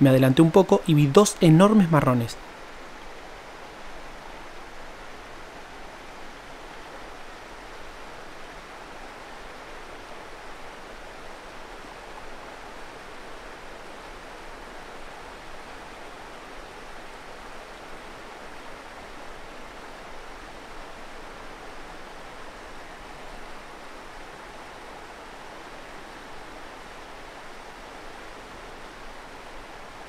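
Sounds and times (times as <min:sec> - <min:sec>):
river rushing over stones: 0:00.0 - 0:30.0.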